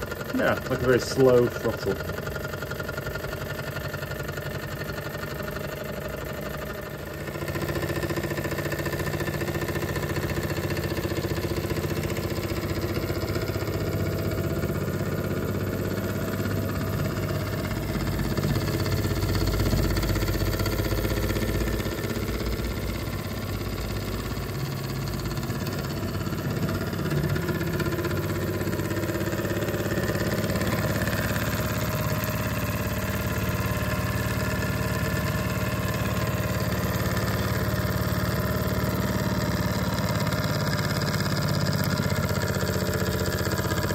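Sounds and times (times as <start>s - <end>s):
model steam engine running: 0.0s - 43.9s.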